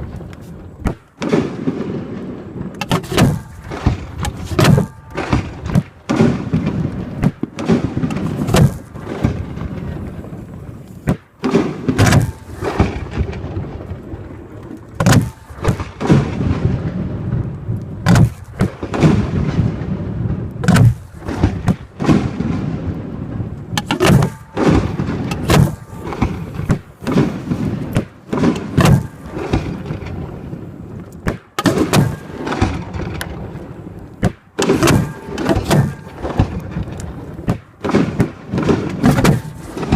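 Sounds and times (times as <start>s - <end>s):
fireworks shells booming: 0.0s - 39.9s.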